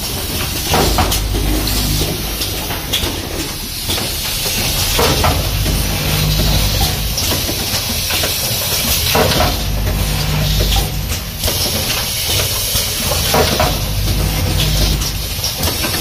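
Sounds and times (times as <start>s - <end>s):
machine hissing and humming: 0.0s - 16.0s
machine mechanism clacks: 0.0s - 16.0s.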